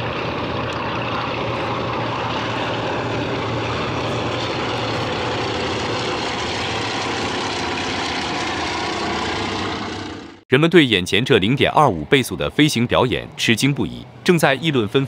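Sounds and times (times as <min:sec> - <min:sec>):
propeller planes droning overhead: 0:00.0 - 0:15.0.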